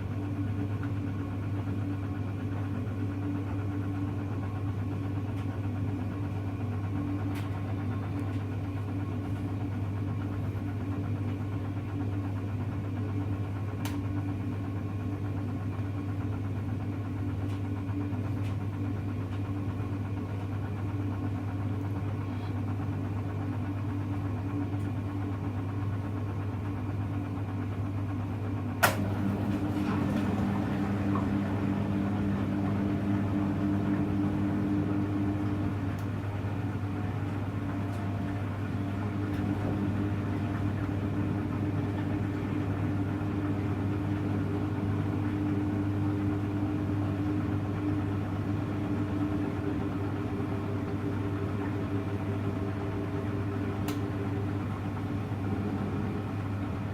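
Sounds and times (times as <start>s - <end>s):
washing machine motor hum: 0.0s - 56.9s.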